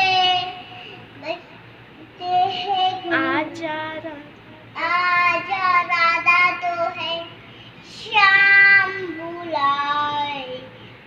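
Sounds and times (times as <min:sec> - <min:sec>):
girl singing: 0:00.0 - 0:10.8.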